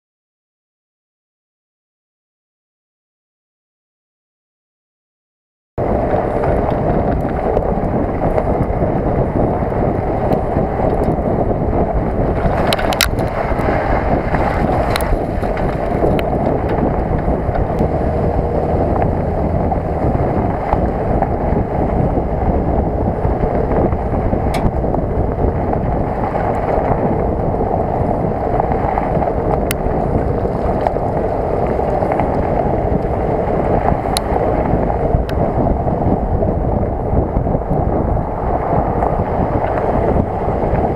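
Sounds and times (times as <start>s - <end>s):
tyre and road noise: 5.8s - 40.9s
wind rush: 5.8s - 40.9s.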